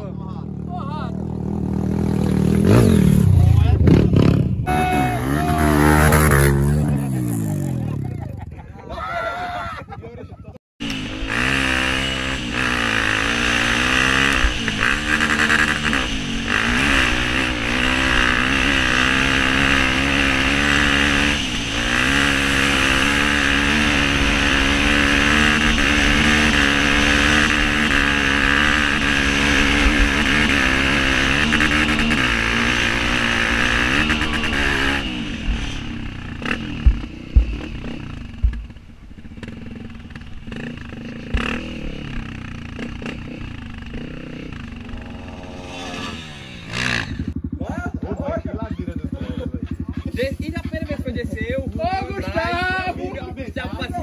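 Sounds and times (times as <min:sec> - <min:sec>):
dirt bike engine revving: 0:00.0 - 0:08.4, 0:10.8 - 0:54.0.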